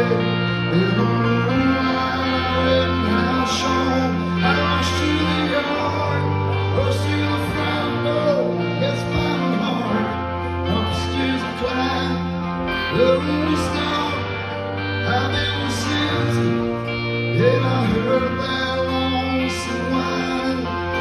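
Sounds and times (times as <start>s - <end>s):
live rock band: 0.0s - 21.0s.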